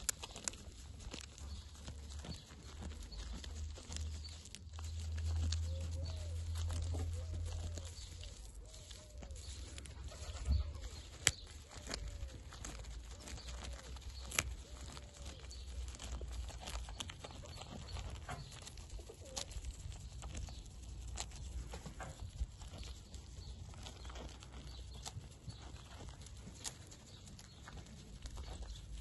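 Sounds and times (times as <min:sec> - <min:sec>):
goat chewing a leaf: 0:00.0 - 0:29.0.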